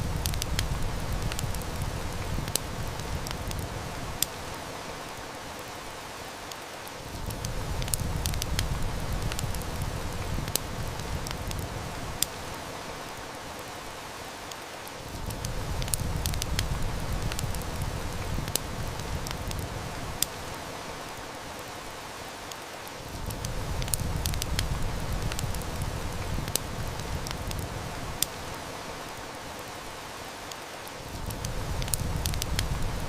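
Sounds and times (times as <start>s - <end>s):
heavy rain hissing: 0.0s - 33.0s
wood fire crackling: 0.0s - 33.0s.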